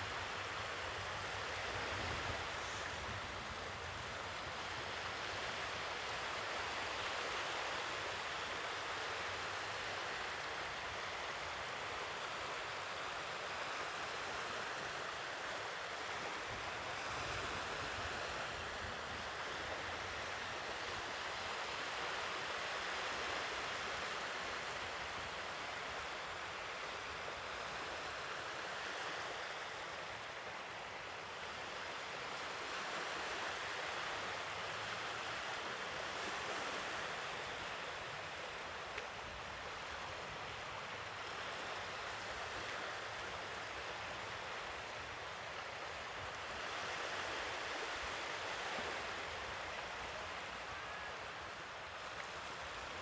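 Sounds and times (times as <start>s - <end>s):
sea waves washing on shore: 0.0s - 53.0s.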